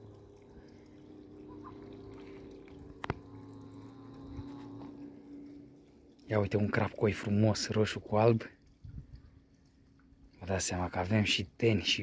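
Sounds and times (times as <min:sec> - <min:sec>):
steady low hum: 0:00.0 - 0:11.7
fish feeding at water surface: 0:00.0 - 0:12.0.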